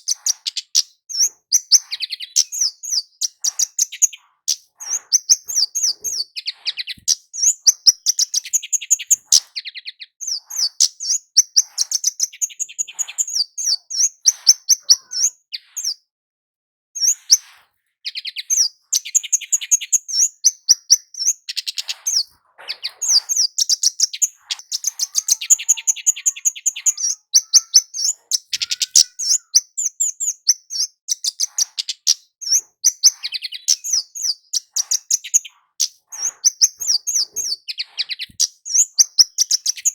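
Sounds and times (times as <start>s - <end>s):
bird singing high chirps and trills: 0.0s - 16.1s, 17.0s - 39.9s.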